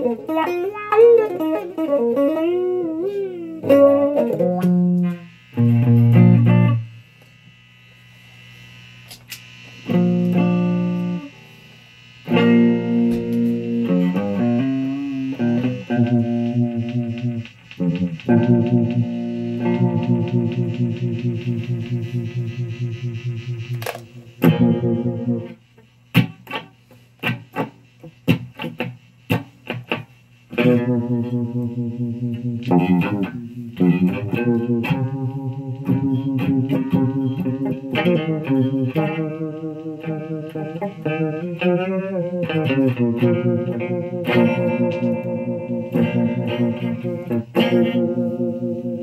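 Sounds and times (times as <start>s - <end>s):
fuzz electric guitar: 0.0s - 49.0s.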